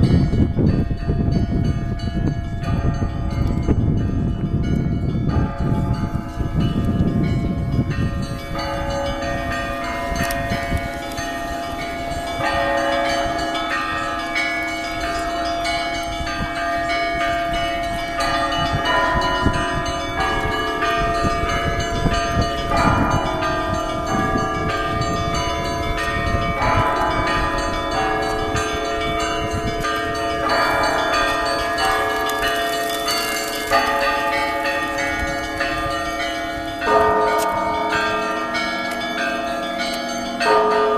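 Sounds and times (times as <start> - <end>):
church bells ringing: 0.0 - 40.9
low bell hum: 0.0 - 40.9.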